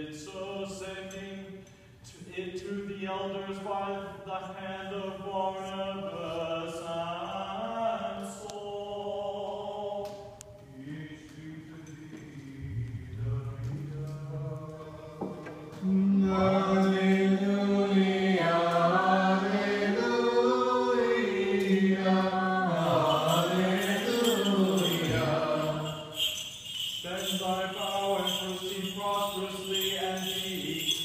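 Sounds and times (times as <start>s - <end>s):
low voice chanting: 0.0s - 31.0s
chanting with long held notes: 2.4s - 31.0s.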